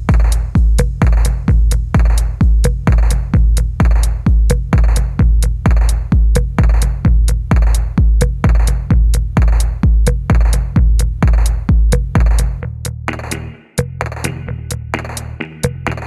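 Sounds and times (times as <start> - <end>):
crisp hi-hats: 0.0 - 16.0
drum-machine kick beat: 0.0 - 16.0
electronic dance music: 0.0 - 16.0
heavy bass: 0.0 - 16.0.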